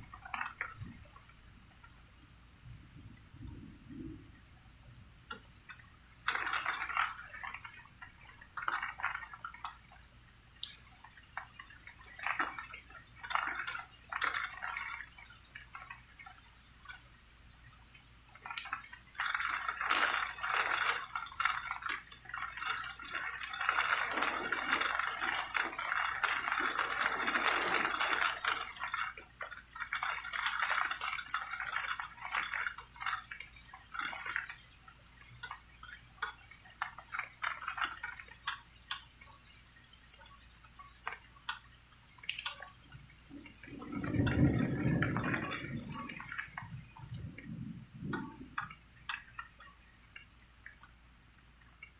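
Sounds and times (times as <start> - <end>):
rain falling: 0.0 - 51.9
drips splashing: 3.4 - 51.9.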